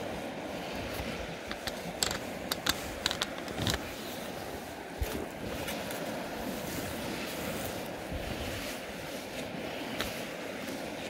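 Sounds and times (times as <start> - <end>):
shallow river rushing: 0.0 - 11.0.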